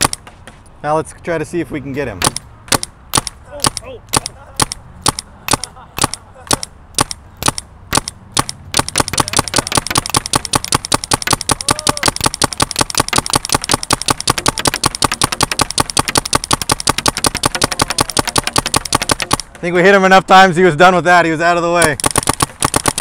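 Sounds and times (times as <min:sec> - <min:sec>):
paintball gun firing: 0:00.0 - 0:00.3, 0:02.2 - 0:19.8, 0:21.8 - 0:23.0.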